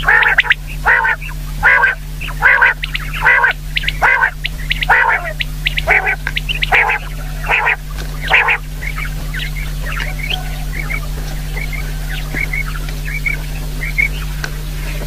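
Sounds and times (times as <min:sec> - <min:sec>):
quail calling: 0:00.0 - 0:15.0
steady low hum: 0:00.0 - 0:15.0.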